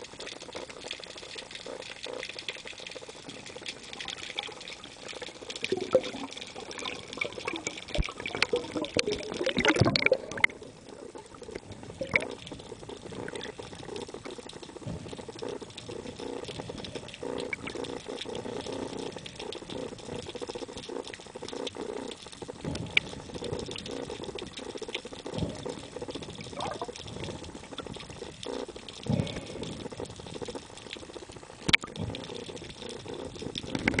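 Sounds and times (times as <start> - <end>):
underwater sloshing and bubbling: 0.0 - 34.0.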